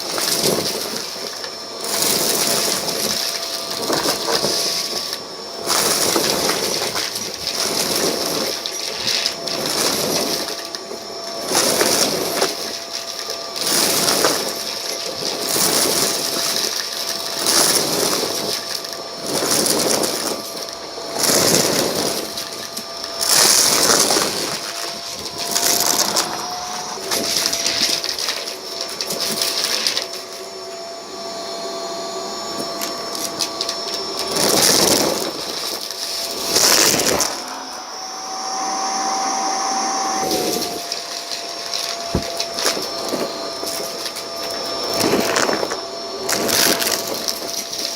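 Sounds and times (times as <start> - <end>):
vacuum cleaner on rug: 0.0 - 47.9.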